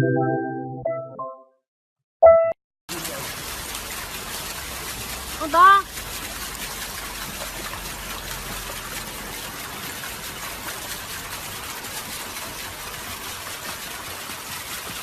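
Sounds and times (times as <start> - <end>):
running water rushing: 2.9 - 15.0.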